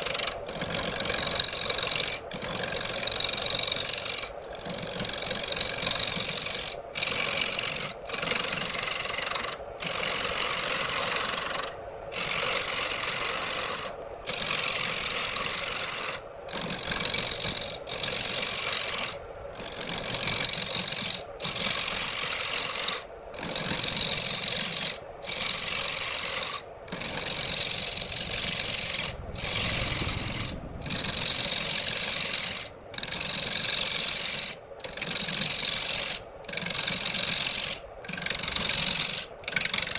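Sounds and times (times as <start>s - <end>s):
faint steady hum: 0.0s - 39.9s
rasp scraping wood: 0.0s - 39.9s.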